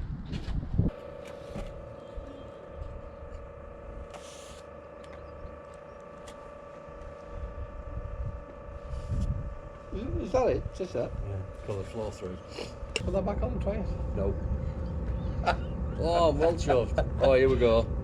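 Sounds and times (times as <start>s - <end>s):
heater fan whining: 0.0s - 18.0s.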